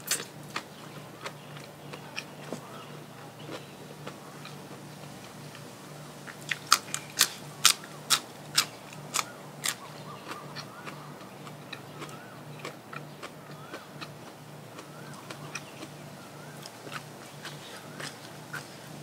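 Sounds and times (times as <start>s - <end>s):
crunching crisp food: 0.0s - 19.0s
soft chewing: 0.0s - 19.0s.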